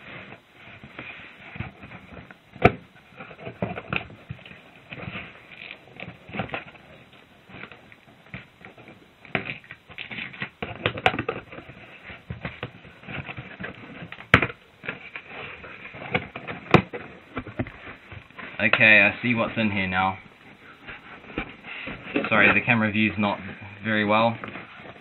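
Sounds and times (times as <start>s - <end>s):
cardboard box packing rustles: 0.0s - 25.0s.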